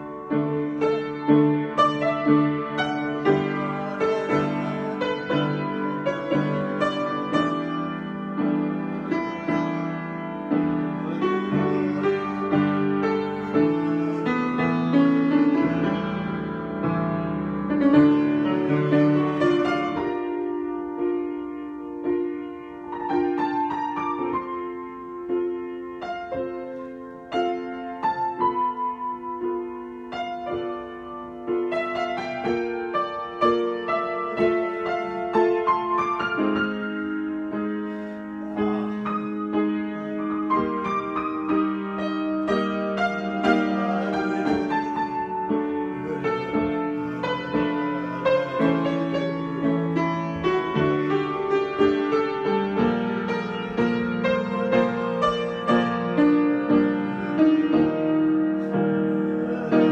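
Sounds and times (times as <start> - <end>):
grand piano improvisation: 0.0 - 59.9.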